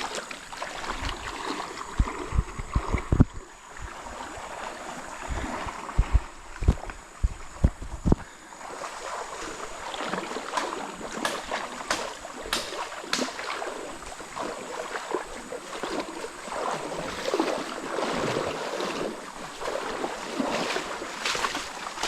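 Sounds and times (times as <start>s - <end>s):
river water splashing: 0.0s - 22.0s.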